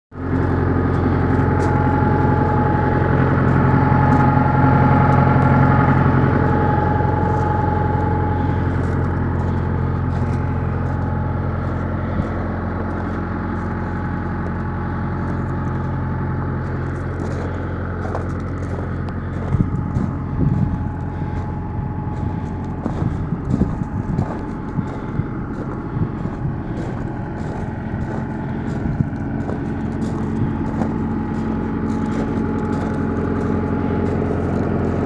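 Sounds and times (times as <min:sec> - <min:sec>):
engine idling: 0:00.1 - 0:35.0
faint held whine: 0:00.1 - 0:35.0
footsteps on gravel: 0:00.2 - 0:35.0.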